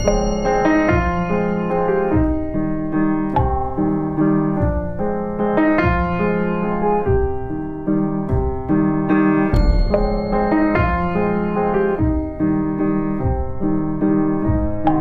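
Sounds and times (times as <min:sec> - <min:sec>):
piano music with low bass line: 0:00.0 - 0:15.0.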